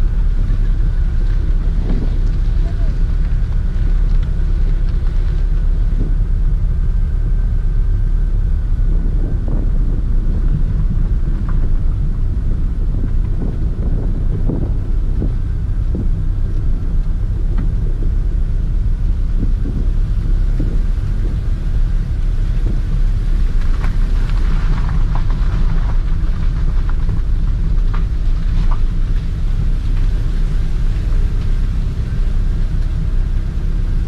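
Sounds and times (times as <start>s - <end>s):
car engine and tyres rumbling: 0.0s - 34.0s
wind buffeting microphone: 0.0s - 34.0s.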